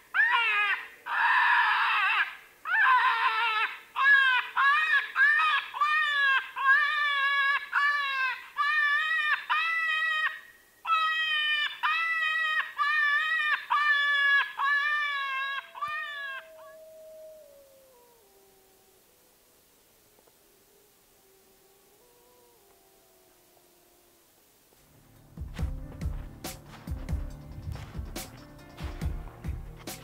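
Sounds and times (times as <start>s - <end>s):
wailing animal distress cries: 0.1s - 24.4s.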